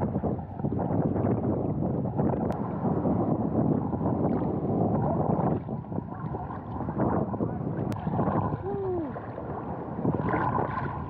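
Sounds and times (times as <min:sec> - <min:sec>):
waves sloshing and splashing: 0:00.0 - 0:11.0
wind on microphone: 0:00.0 - 0:11.0.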